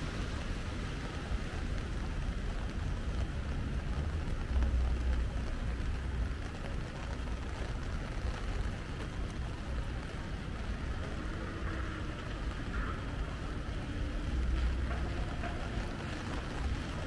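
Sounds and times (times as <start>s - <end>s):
low rumble of traffic: 0.0s - 17.0s
rain hissing on wet pavement: 0.0s - 17.0s.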